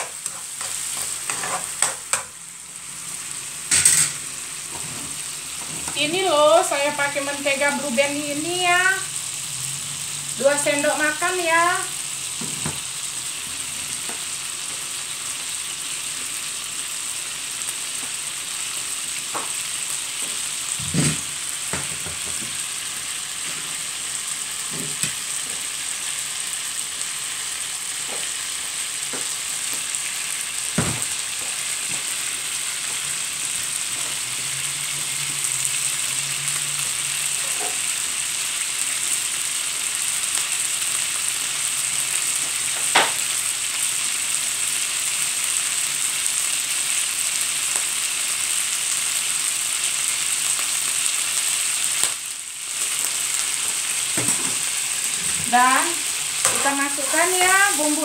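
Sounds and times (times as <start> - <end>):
butter sizzling in a frying pan: 0.0 - 58.0.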